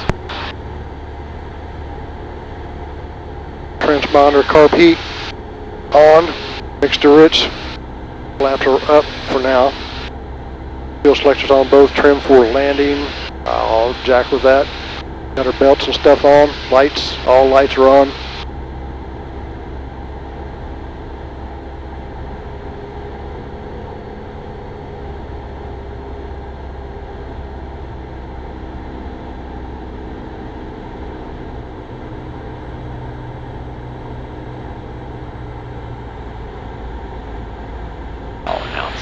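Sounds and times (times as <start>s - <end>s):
airplane engine and propeller droning: 0.0s - 39.0s.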